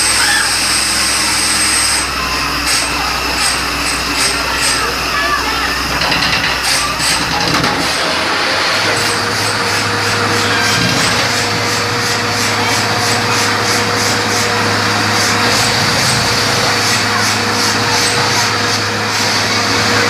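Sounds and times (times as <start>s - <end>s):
drilling rig droning: 0.0s - 20.0s.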